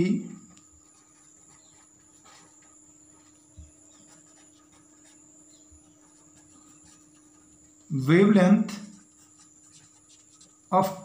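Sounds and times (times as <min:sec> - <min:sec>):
pen scratching on paper: 0:00.0 - 0:11.0
steady low hum: 0:00.0 - 0:11.0.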